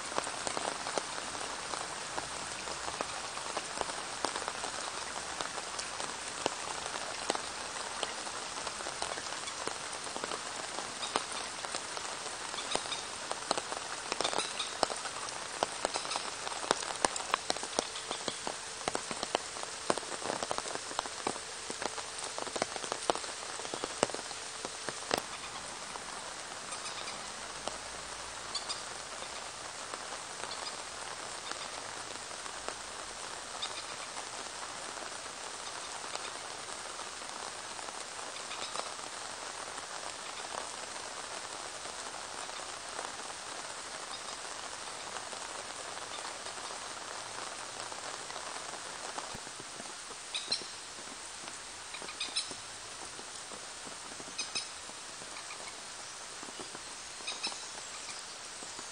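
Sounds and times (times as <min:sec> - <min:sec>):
rain falling on a pond: 0:00.0 - 0:58.9.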